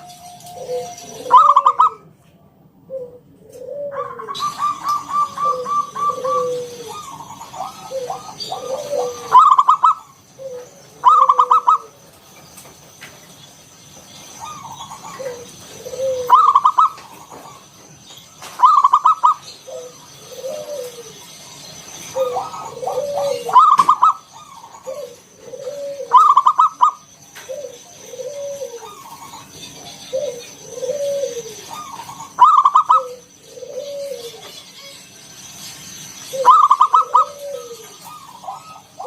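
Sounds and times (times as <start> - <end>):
dove cooing song: 0.0 - 2.2, 2.8 - 12.3, 14.2 - 35.1, 36.0 - 39.0.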